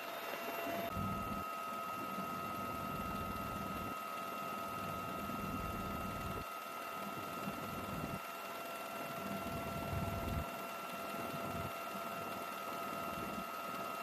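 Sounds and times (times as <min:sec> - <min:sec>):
helicopter turbine whine: 0:00.0 - 0:14.0.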